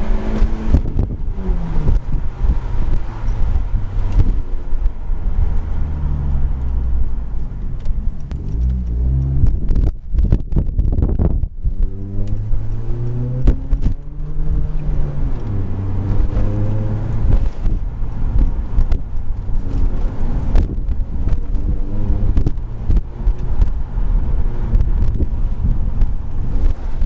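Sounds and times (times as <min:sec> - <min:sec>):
loud car exhaust rumble: 0:00.0 - 0:27.0.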